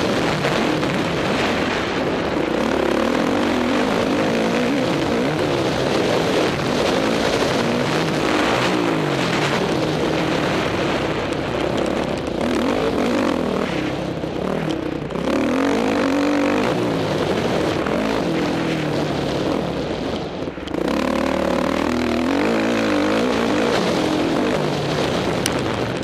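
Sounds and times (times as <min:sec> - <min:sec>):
dirt bike engine revving: 0:00.0 - 0:25.4.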